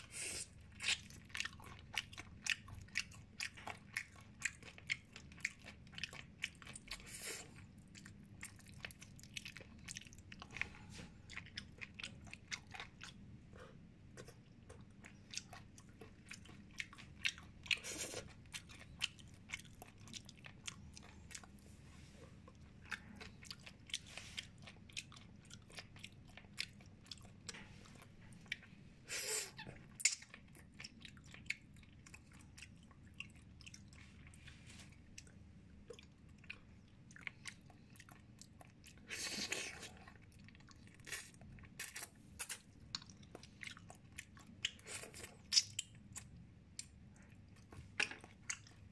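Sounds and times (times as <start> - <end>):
chewing and biting chicken: 0.4 - 13.3, 14.2 - 21.6, 22.4 - 28.8, 29.8 - 48.9.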